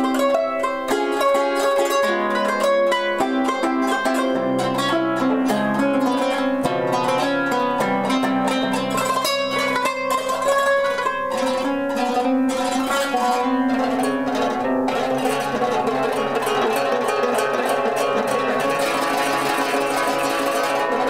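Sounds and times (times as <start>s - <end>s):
plucked zither melody: 0.0s - 21.0s.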